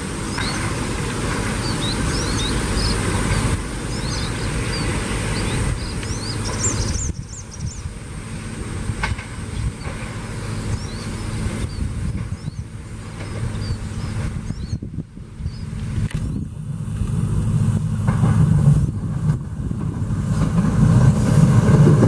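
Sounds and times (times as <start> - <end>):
railcar engine and wheel rumble: 0.0 - 22.0.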